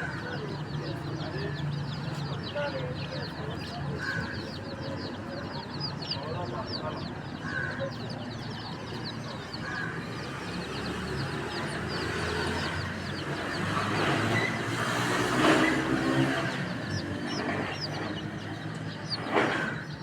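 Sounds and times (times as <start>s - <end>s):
baby chicks peeping: 0.0s - 20.0s.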